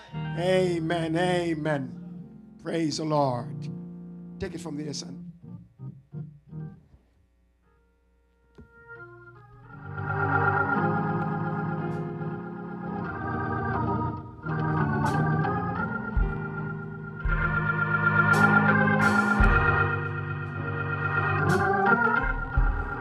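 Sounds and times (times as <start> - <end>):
organ sustained chords: 0.0 - 23.0.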